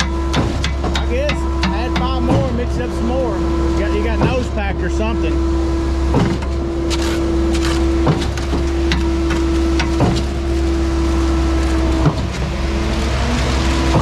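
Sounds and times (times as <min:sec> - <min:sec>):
engine and hydraulic drone: 0:00.0 - 0:14.0
pump knocking: 0:00.0 - 0:14.0.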